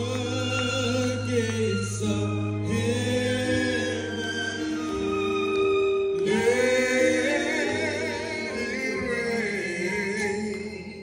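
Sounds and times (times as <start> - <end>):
man singing gospel: 0.0 - 4.4, 6.2 - 11.0.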